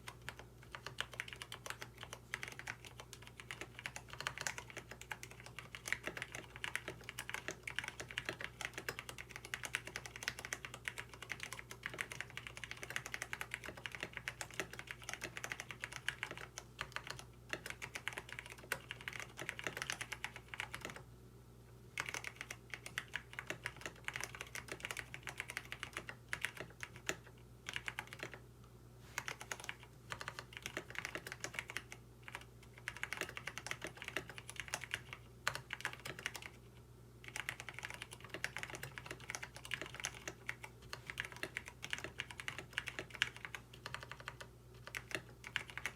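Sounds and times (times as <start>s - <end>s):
fast mechanical keyboard typing: 0.0s - 21.0s, 22.0s - 28.4s, 29.2s - 36.6s, 37.2s - 45.9s.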